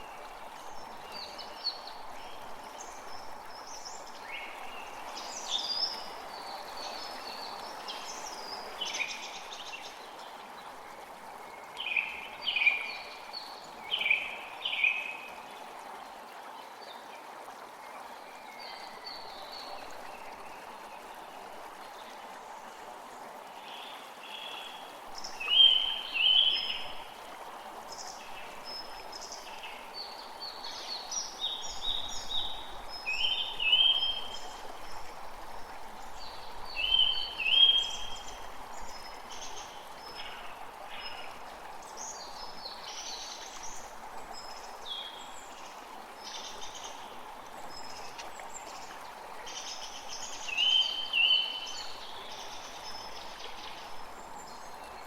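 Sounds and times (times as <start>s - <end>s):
creek running: 0.0s - 55.0s.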